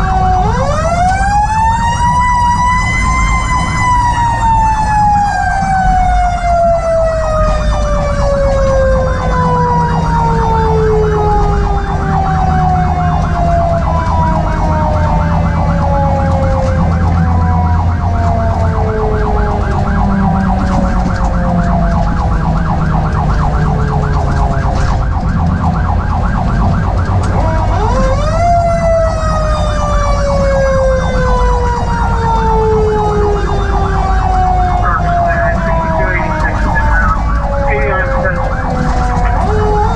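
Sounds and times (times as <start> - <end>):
mechanical siren wailing: 0.0 - 39.9
truck engine and road rumble: 0.0 - 39.9.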